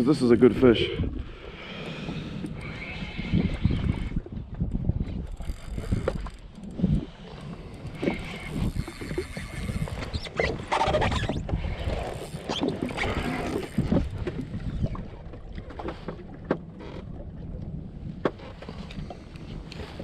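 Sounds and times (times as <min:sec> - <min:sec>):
wind buffeting microphone: 0:00.0 - 0:16.5
water slapping against hull: 0:01.0 - 0:20.0.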